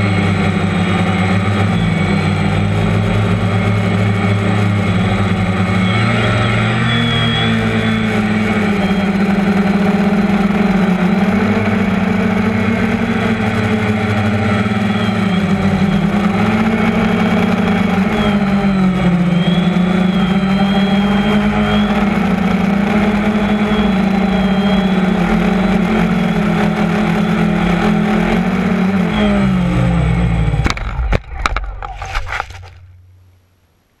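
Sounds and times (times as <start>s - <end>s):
drone propellers buzzing: 0.0s - 33.0s.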